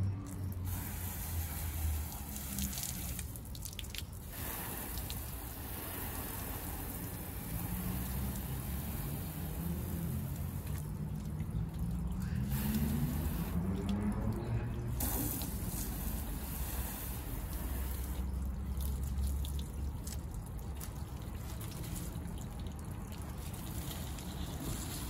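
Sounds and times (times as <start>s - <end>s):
water running and splashing: 0.0s - 25.0s.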